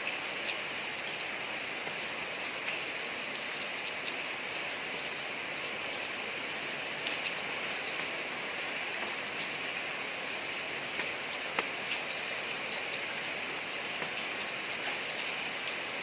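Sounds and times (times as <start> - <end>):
steady rain on a street: 0.0 - 16.0
ticks of single raindrops: 0.0 - 16.0.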